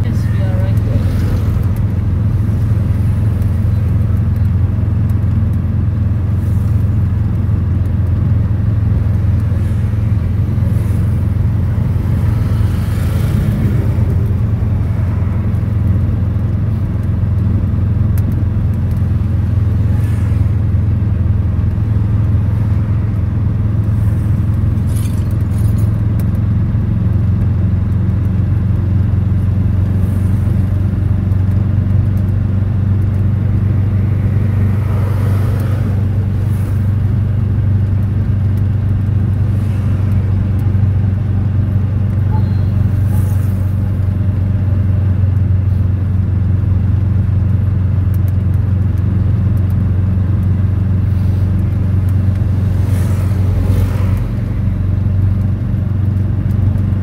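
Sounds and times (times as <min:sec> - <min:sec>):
engine drone: 0:00.0 - 0:57.0
road noise: 0:00.0 - 0:57.0.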